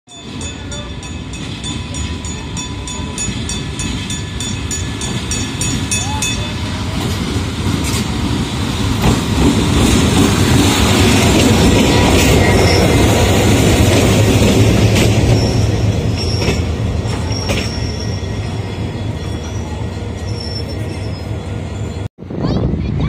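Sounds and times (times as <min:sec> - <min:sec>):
diesel locomotive engine rumble: 0:00.1 - 0:23.0.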